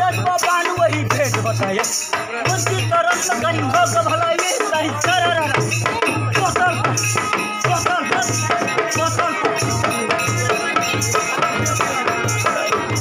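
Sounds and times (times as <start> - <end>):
folk song: 0.0 - 13.0
shaker keeping time: 0.0 - 13.0
steady drum beat: 0.0 - 13.0.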